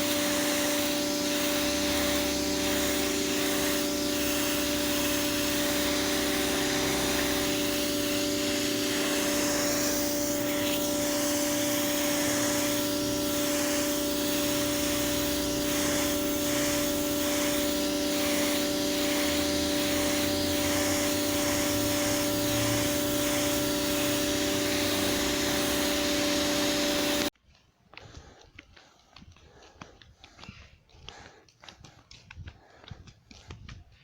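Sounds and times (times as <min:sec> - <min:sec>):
pressure washer running: 0:00.0 - 0:27.3.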